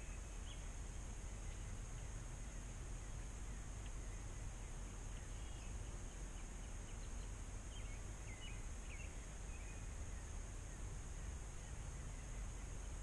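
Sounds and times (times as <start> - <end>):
faint bird chirps: 0.0 - 13.0
low rumble and hiss: 0.0 - 13.0.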